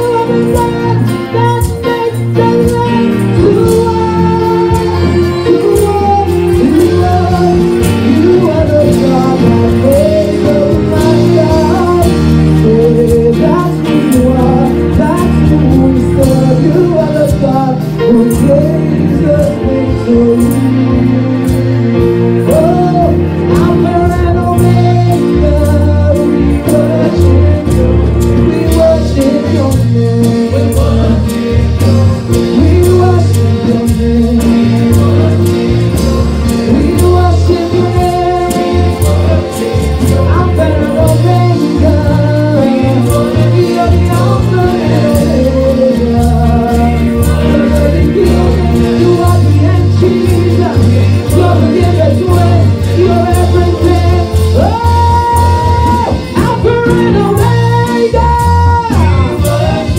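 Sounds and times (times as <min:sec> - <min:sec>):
deep bass: 0:00.0 - 0:59.9
gospel singing: 0:00.0 - 0:59.9
held keyboard chords: 0:00.0 - 0:59.9
steady drum beat: 0:00.0 - 0:59.9.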